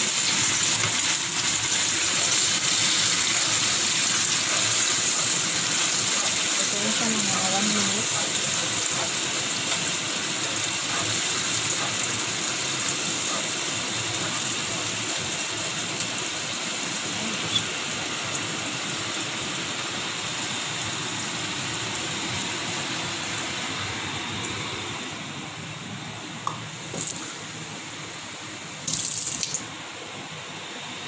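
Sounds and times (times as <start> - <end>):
puree sizzling in a wok: 0.0 - 24.9.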